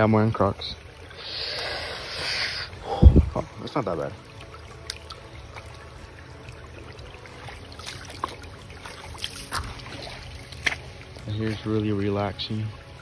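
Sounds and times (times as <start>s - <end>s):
creek water trickling over rocks: 0.0s - 13.0s.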